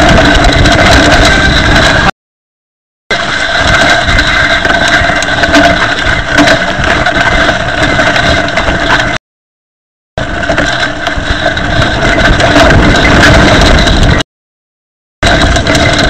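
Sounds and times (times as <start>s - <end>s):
bike disc brakes grinding: 0.0s - 2.1s, 3.1s - 9.2s, 10.2s - 14.2s, 15.2s - 16.0s.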